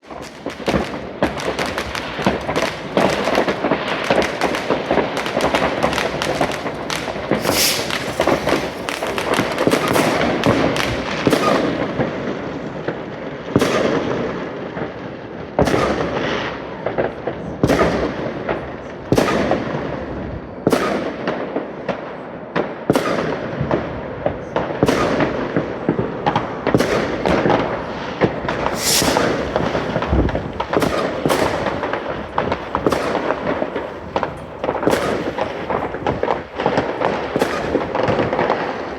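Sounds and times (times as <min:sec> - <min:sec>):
fireworks and firecrackers banging: 0:00.0 - 0:38.9.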